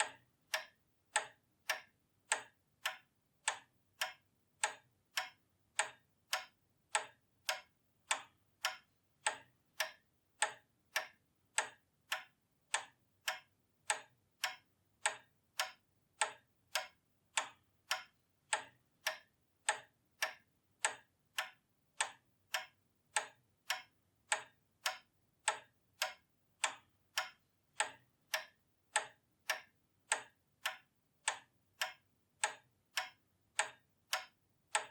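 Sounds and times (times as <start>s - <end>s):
pendulum clock ticking: 0.0s - 34.9s.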